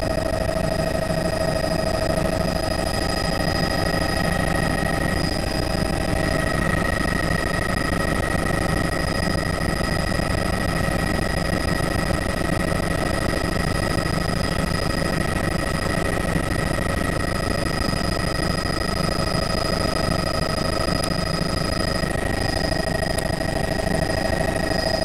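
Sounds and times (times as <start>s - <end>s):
helicopter engine and rotor drone: 0.0s - 25.0s
high-pitched whine: 0.0s - 25.0s.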